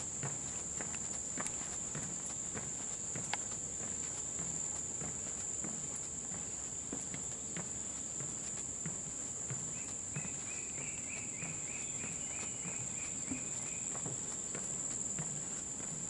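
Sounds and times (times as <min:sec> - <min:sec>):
footsteps on wooden boards: 0:00.0 - 0:16.0
insects droning: 0:00.0 - 0:16.0.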